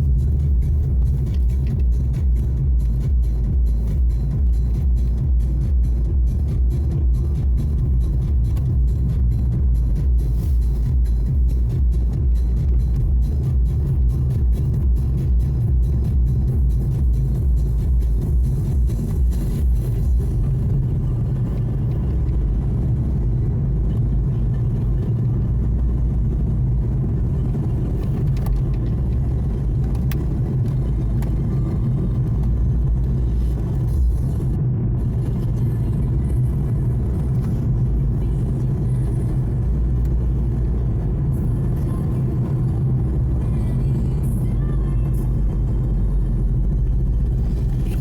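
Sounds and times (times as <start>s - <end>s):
car road and drivetrain rumble: 0.0s - 48.0s.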